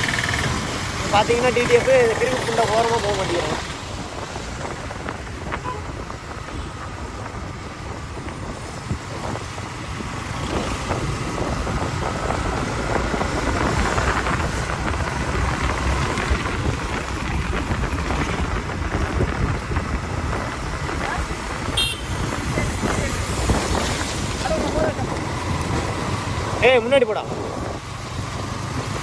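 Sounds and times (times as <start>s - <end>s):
motorbike engine and road noise: 0.0s - 29.0s
wind buffeting microphone: 0.0s - 29.0s.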